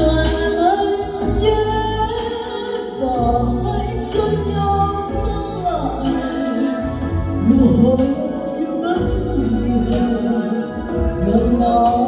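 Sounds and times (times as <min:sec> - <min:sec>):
karaoke backing track: 0:00.0 - 0:12.0
woman singing into microphone: 0:00.0 - 0:12.0.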